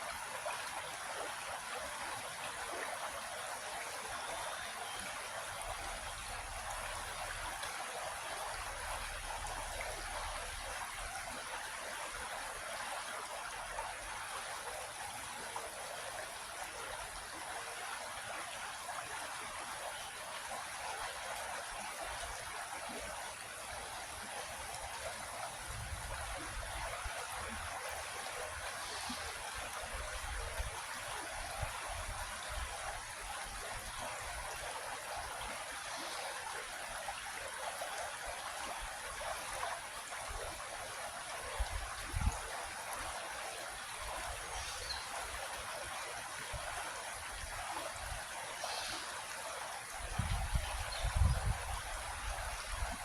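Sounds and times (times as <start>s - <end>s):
creek water flowing over rocks: 0.0s - 53.0s.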